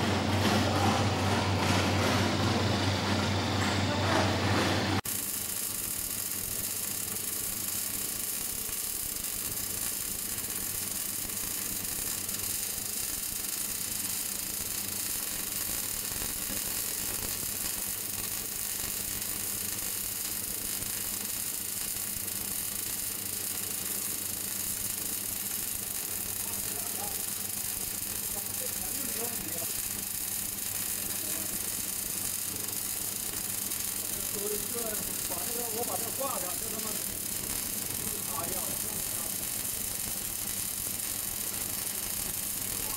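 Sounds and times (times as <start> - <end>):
welding arc crackling and sizzling: 0.0 - 42.9.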